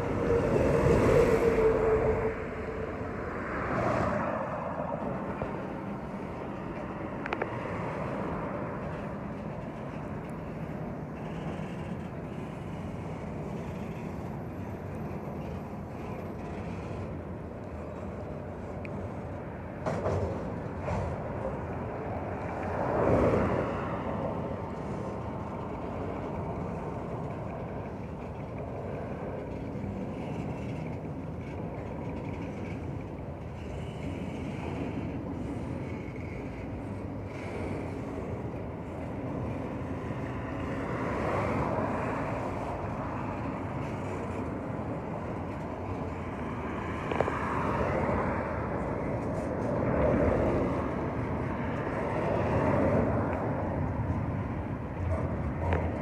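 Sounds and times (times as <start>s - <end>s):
freight train cars rumbling: 0.0s - 56.0s.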